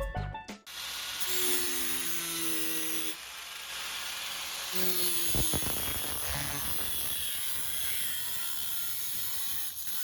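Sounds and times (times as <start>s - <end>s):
power tool cutting sheet steel: 0.7s - 10.0s.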